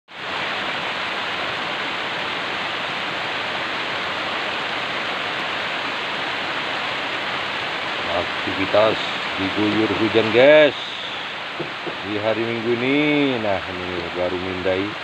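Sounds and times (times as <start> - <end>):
heavy rain on plants and paving: 0.1 - 15.0.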